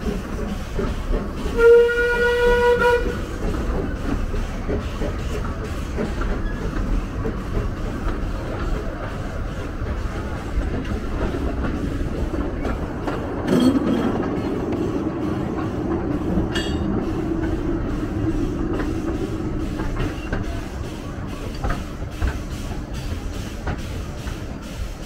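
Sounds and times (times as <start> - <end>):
train wheels clattering over rails: 0.0 - 25.0.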